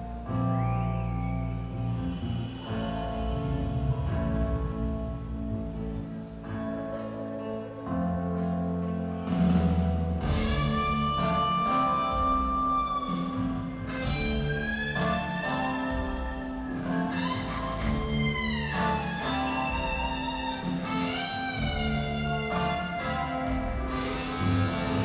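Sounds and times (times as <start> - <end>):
electric guitar bending notes: 0.0 - 25.0
live rock band playing: 0.0 - 25.0.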